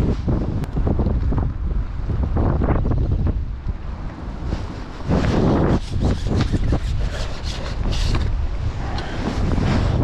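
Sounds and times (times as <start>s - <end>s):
gusty wind buffeting microphone: 0.0s - 10.0s.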